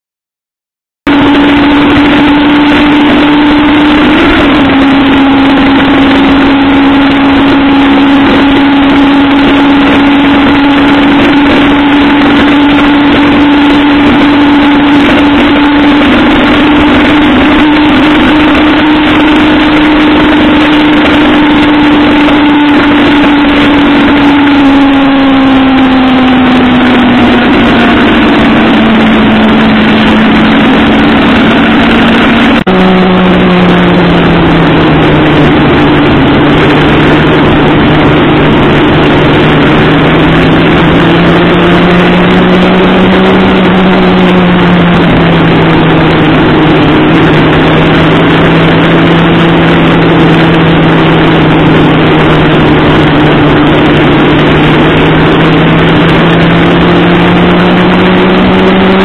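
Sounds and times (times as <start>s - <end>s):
motorcycle engine cruising: 1.1s - 59.0s
wind rush over microphone: 1.1s - 59.0s.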